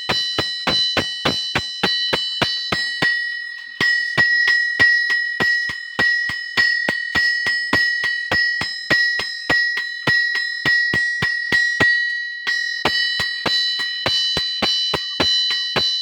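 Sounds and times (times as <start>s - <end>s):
hammers ringing on an anvil: 0.0s - 16.0s.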